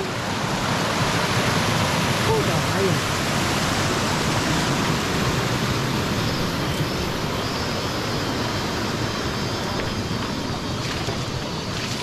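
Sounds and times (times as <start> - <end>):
loud steady rushing noise: 0.0 - 12.0.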